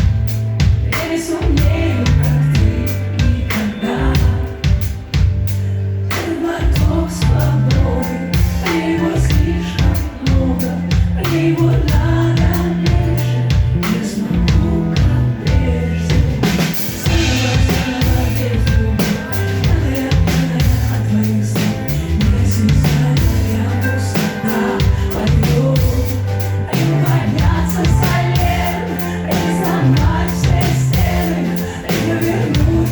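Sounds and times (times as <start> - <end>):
live pop-rock band: 0.0 - 32.9
person singing: 0.0 - 32.9.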